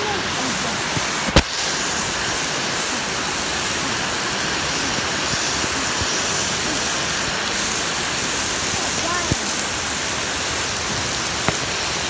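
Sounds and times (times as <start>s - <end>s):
single raindrops: 0.0s - 12.0s
steady rain hiss: 0.0s - 12.0s.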